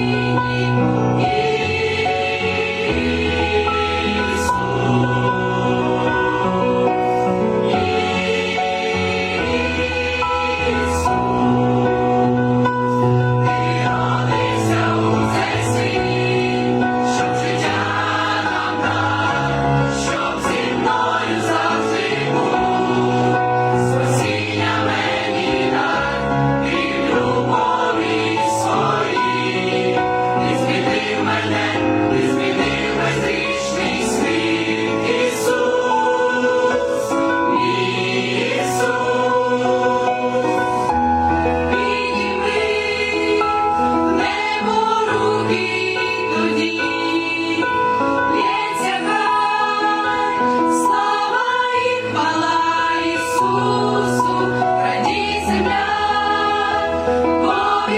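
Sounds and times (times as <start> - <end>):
choir singing a carol: 0.0 - 57.9.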